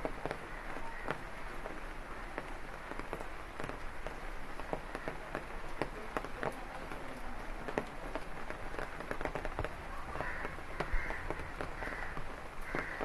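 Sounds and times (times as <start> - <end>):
rain falling steadily: 0.0 - 13.0
raindrops striking as sharp ticks: 0.0 - 13.0.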